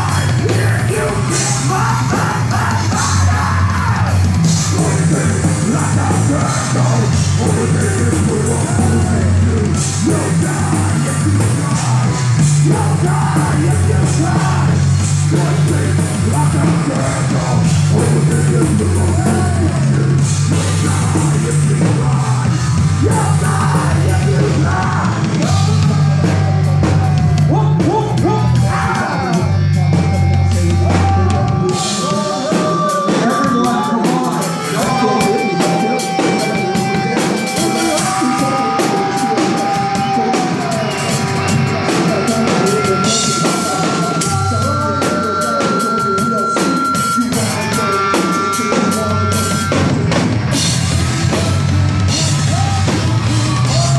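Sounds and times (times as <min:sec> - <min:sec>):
bass guitar: 0:00.0 - 0:53.9
drum kit: 0:00.0 - 0:53.9
electric guitar: 0:00.0 - 0:53.9.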